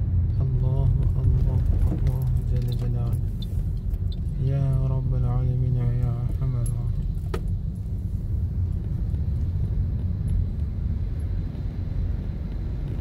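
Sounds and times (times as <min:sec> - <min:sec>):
car cabin low rumble: 0:00.0 - 0:13.0.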